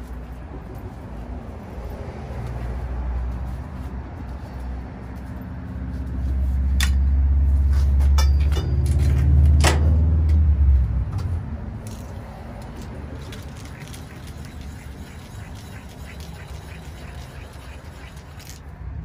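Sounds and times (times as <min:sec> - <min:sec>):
large engine rumbling: 0:02.4 - 0:19.0.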